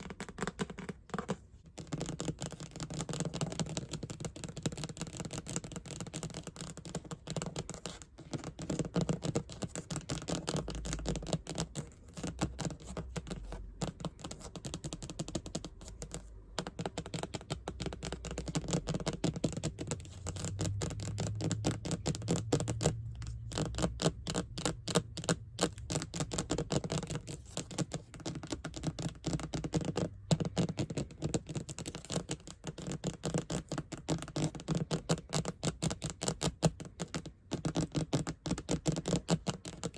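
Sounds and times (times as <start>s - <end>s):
fast tapping on hard surface: 0.0s - 39.9s.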